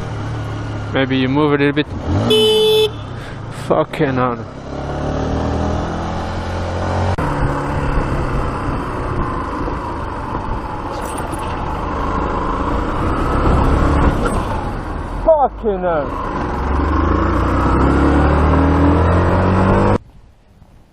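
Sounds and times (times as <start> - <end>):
vehicle engine: 0.0 - 20.0
road and wind noise: 0.0 - 20.9.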